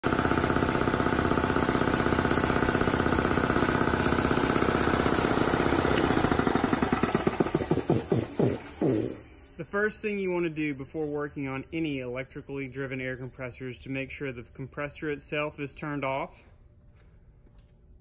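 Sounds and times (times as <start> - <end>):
piston air compressor pounding: 0.0 - 14.8.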